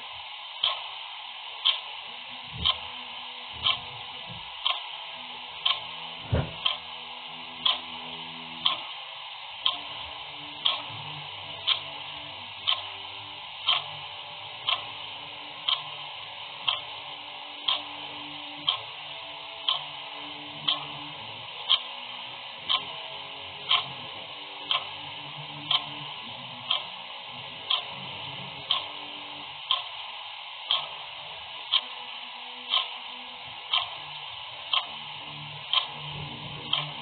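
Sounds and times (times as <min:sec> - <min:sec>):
clock ticking: 0:00.6 - 0:01.0, 0:01.6 - 0:01.9, 0:02.6 - 0:03.0, 0:03.6 - 0:05.0, 0:05.6 - 0:09.0, 0:09.6 - 0:37.0.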